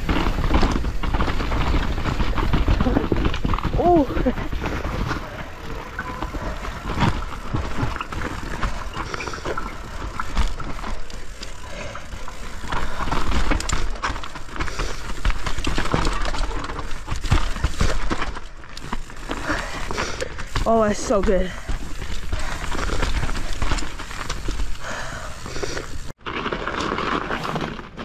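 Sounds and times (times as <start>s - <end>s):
bike rattling and knocking: 0.0s - 28.0s
bike tyres on snow: 0.0s - 28.0s.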